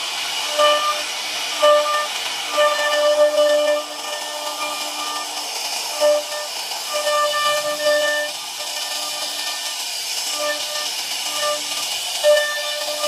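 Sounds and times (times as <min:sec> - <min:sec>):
router spindle high whine: 0:00.4 - 0:09.7, 0:10.3 - 0:13.0.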